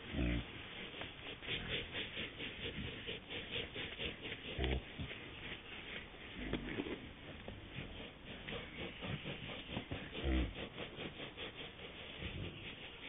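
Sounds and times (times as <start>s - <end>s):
boar grunting: 0.0s - 0.5s, 1.2s - 5.2s, 6.3s - 13.0s
boar rubbing against tree: 0.0s - 13.0s.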